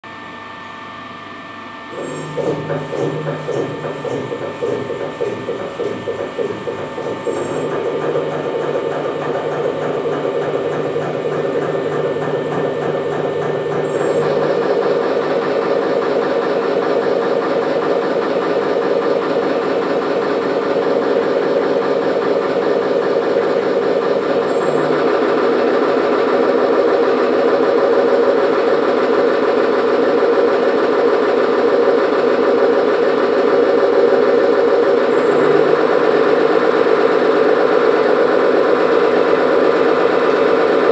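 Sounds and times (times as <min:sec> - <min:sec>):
high-pitched whine: 0:00.0 - 0:40.9
engine mechanical clatter: 0:02.0 - 0:40.9.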